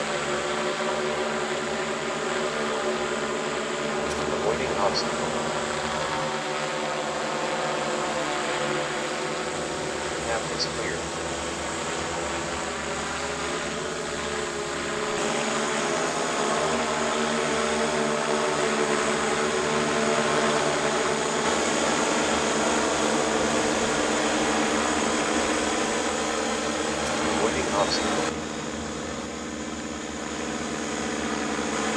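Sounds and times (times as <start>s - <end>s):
drone propellers whirring: 0.0s - 31.9s.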